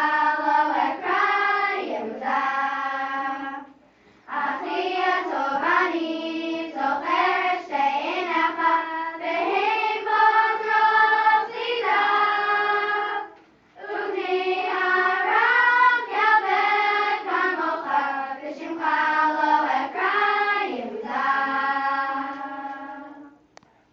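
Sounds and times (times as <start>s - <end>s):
girls singing in unison: 0.0s - 23.5s.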